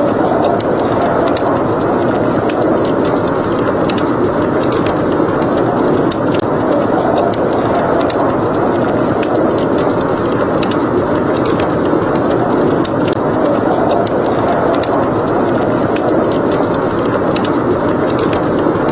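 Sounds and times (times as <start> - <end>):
blizzard wind rushing: 0.0 - 18.9
wood fire crackling: 0.0 - 18.9.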